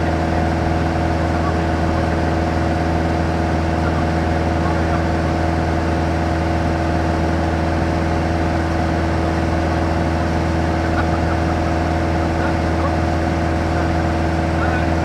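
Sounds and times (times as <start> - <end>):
aircraft propeller engine droning: 0.0 - 15.0.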